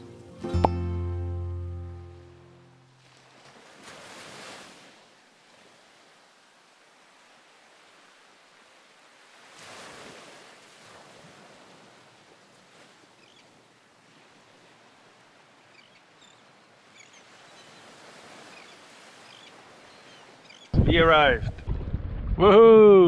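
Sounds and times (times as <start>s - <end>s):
surf: 0.0s - 23.0s
wind: 0.0s - 23.0s.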